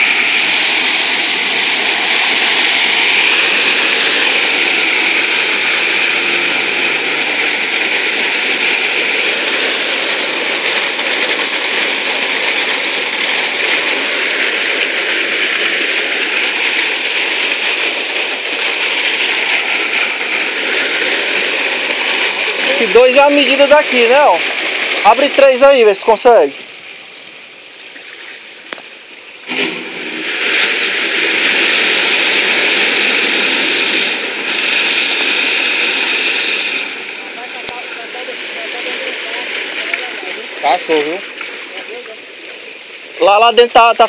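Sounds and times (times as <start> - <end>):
water pouring through drain: 0.0 - 43.4.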